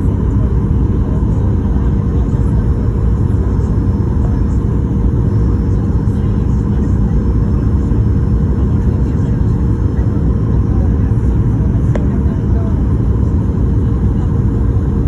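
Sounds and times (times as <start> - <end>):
faint steady hum: 0.0 - 15.0
jet engine rumble in cabin: 0.0 - 15.0.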